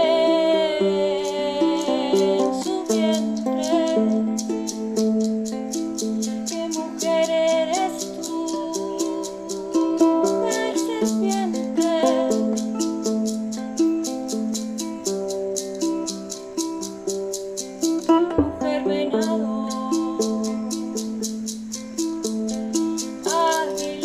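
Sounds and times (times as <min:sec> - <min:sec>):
person singing: 0:00.0 - 0:24.0
ukulele strumming: 0:00.0 - 0:24.0.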